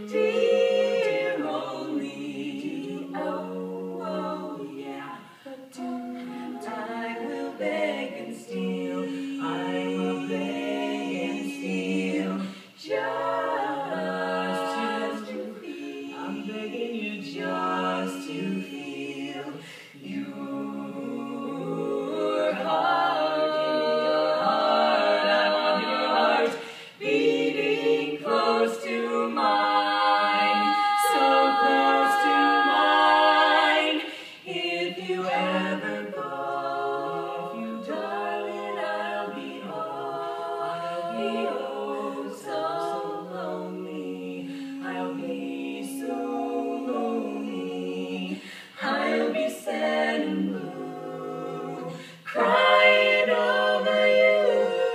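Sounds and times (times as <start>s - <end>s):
women singing close harmony: 0.0s - 54.9s.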